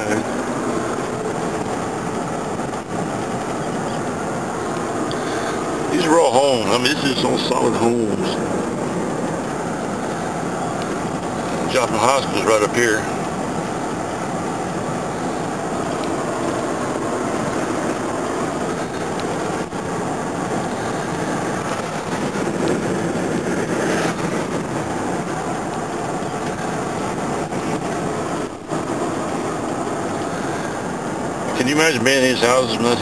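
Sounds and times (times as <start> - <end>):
road and engine noise in car: 0.0 - 33.0.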